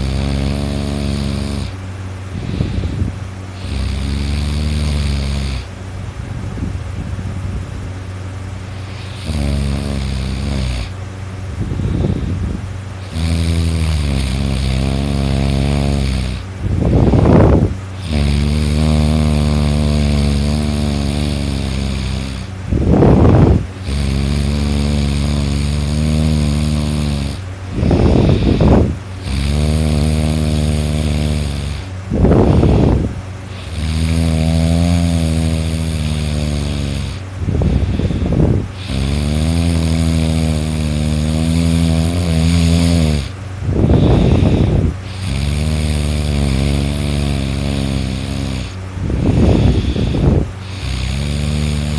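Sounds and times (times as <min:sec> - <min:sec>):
person snoring loudly: 0:00.0 - 0:05.7, 0:08.8 - 0:11.0, 0:11.6 - 0:51.9.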